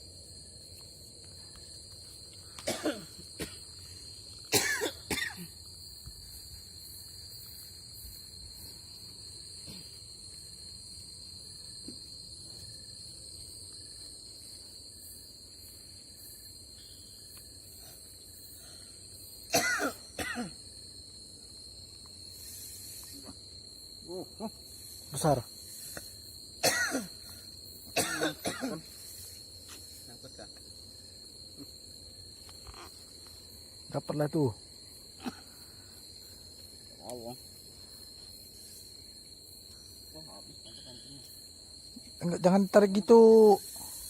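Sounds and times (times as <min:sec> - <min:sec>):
night insects shrilling: 0:00.0 - 0:44.0.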